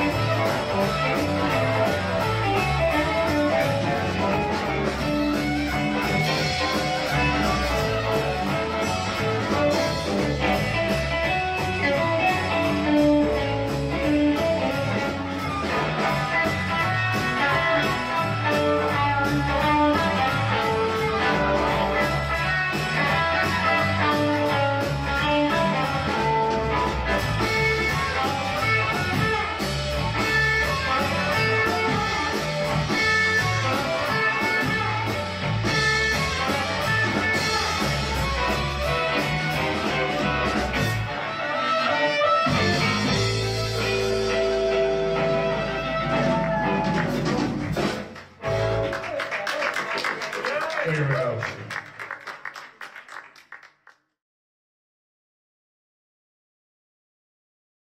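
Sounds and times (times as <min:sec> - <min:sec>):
electric guitar: 0:00.0 - 0:50.2
drum kit beat: 0:00.0 - 0:50.4
bass guitar: 0:00.0 - 0:52.0.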